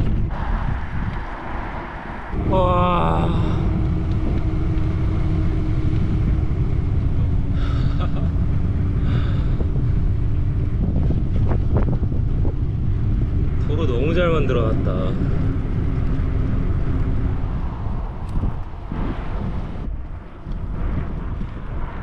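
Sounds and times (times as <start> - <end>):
steady hum: 0.0 - 22.0
wind buffeting microphone: 0.0 - 22.0.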